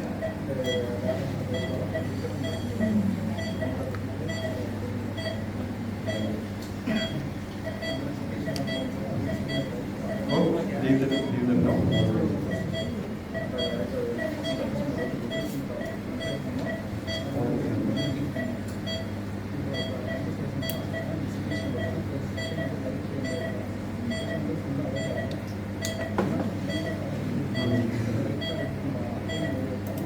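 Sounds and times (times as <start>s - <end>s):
low equipment hum: 0.0s - 30.0s
patient monitor beeping: 0.0s - 30.0s.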